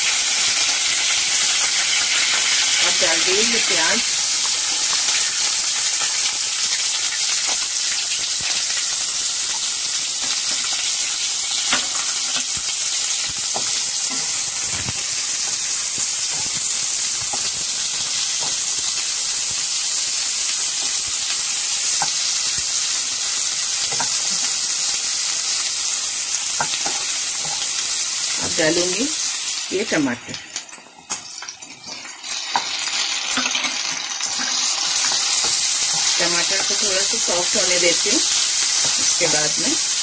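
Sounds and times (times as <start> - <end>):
onions sizzling in hot oil: 0.0 - 40.0.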